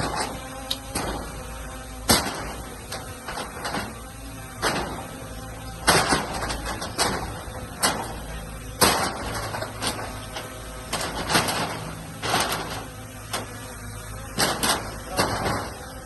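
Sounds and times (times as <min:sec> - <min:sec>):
diesel engine running: 0:00.0 - 0:16.0
sharp metal clanks and bangs: 0:00.0 - 0:16.0.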